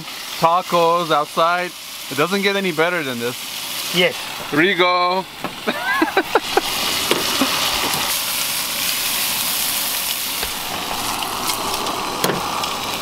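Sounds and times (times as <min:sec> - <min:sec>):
steak sizzling in a skillet: 0:00.0 - 0:13.0.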